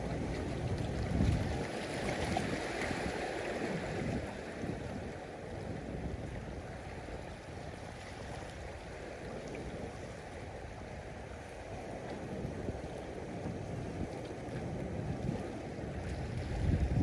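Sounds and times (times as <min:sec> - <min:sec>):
ocean waves: 0:00.0 - 0:17.0.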